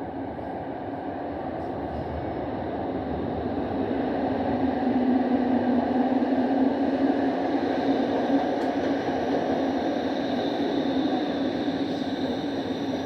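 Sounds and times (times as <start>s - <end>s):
train running with low hum: 0.0s - 13.0s.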